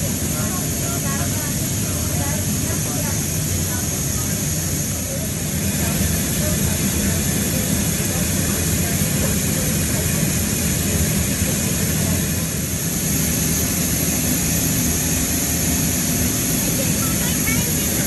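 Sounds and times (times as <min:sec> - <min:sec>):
jet aircraft cabin drone: 0:00.0 - 0:18.0.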